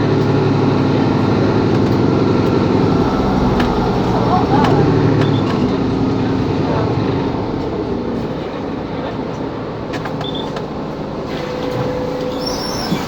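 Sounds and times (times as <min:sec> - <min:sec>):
bus engine and rolling noise: 0:00.0 - 0:13.0.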